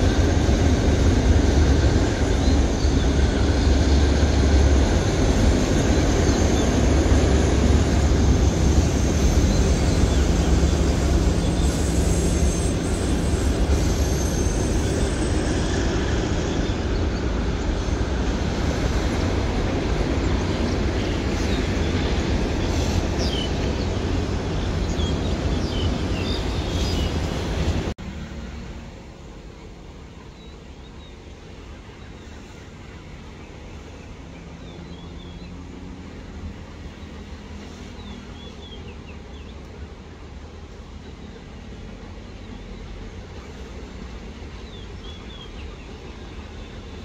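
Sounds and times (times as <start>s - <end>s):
freight train wheels rumbling: 0.0s - 47.0s.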